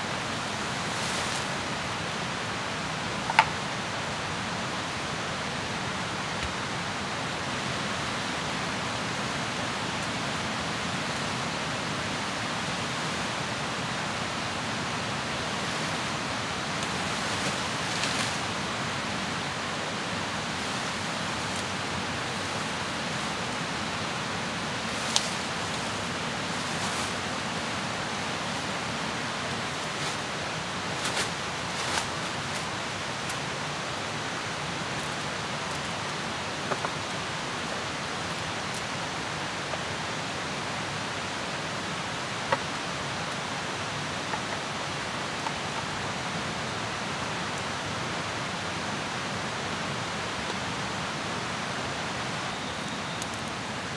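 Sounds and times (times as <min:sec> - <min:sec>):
forest ambience hiss: 0:00.0 - 0:53.9.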